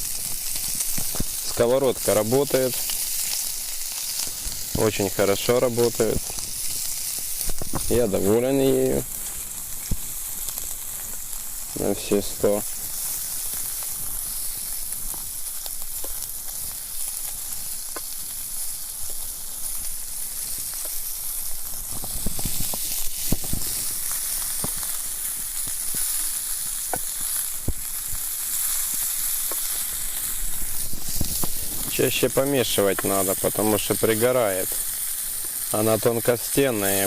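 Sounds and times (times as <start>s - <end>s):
food sizzling in a frying pan: 0.0s - 37.0s
pops and crackles: 0.0s - 37.0s.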